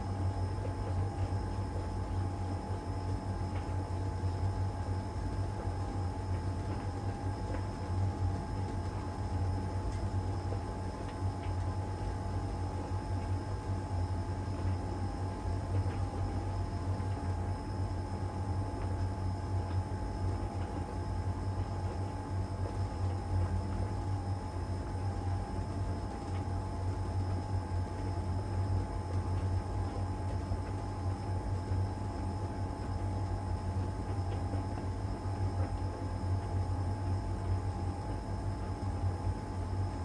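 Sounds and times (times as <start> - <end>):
tumble dryer low hum: 0.0 - 40.0
tumble dryer whine: 0.0 - 40.0.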